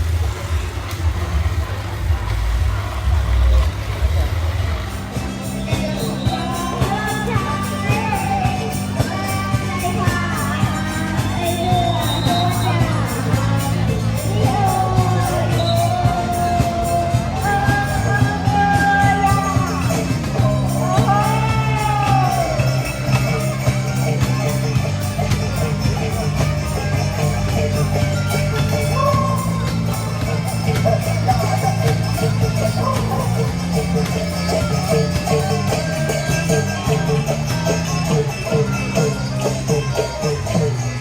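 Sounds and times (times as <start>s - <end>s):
music with steady beat and bass: 0.0s - 41.0s
pop song with singing: 5.0s - 41.0s.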